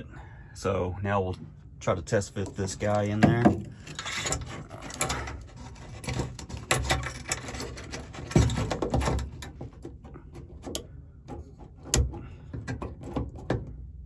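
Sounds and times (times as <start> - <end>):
clicks knocks and scraping: 2.4 - 13.8.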